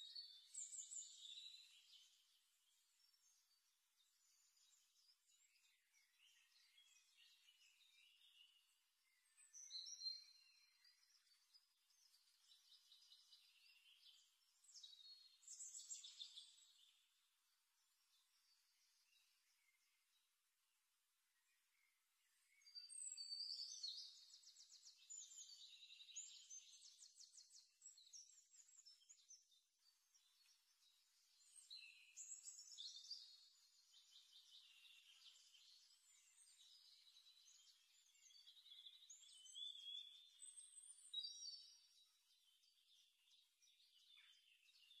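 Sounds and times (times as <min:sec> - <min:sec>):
small birds singing trills: 0:00.0 - 0:45.0.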